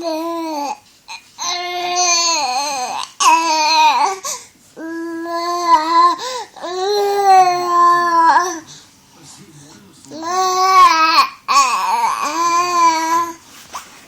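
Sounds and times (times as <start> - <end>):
baby babbling: 0.0 - 8.6, 10.1 - 13.4.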